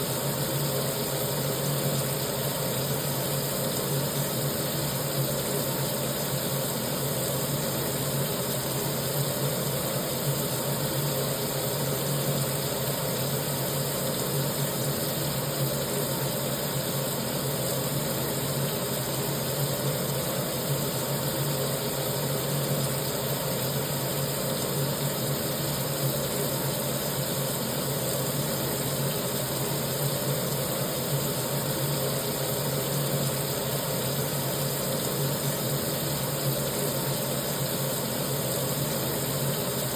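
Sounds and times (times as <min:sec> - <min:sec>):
tap water running: 0:00.0 - 0:39.9.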